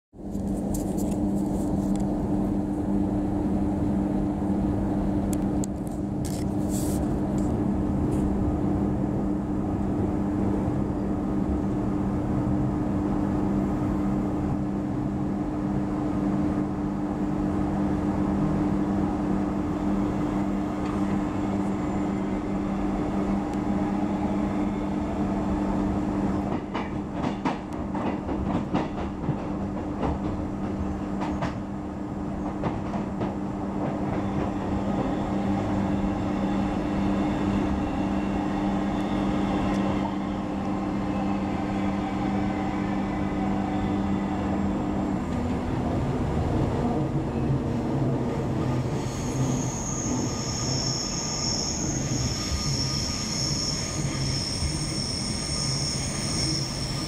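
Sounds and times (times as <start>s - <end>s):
wheels rumbling on rail: 0.2s - 57.0s.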